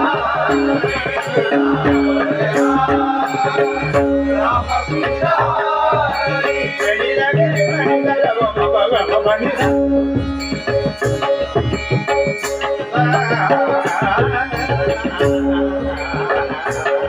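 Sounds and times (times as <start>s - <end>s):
hand drum: 0.0s - 17.0s
harmonium chords: 0.0s - 17.0s.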